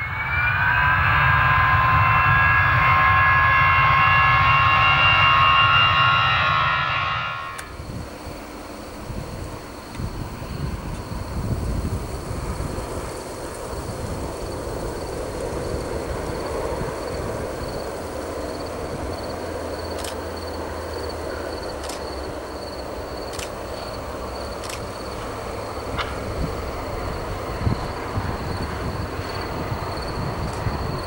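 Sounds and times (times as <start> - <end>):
wind on microphone: 0.0 - 19.4, 25.5 - 31.0
distant propeller plane engine: 0.0 - 31.0
steady high whine: 0.0 - 31.0.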